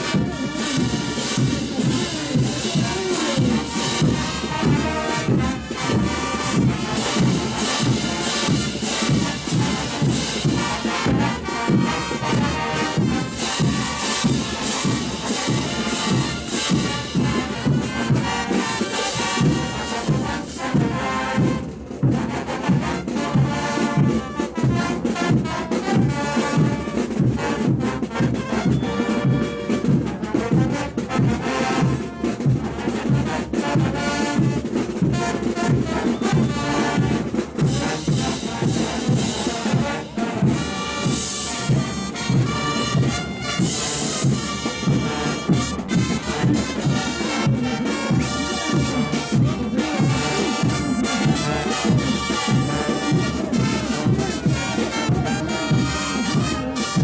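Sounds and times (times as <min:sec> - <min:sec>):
bass drums: 0:00.0 - 0:57.0
brass instruments: 0:00.0 - 0:57.0.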